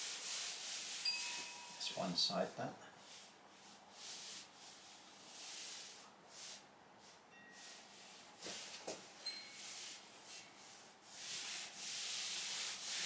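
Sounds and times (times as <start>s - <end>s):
hands rubbing carpet: 0.0s - 1.5s, 3.1s - 13.0s.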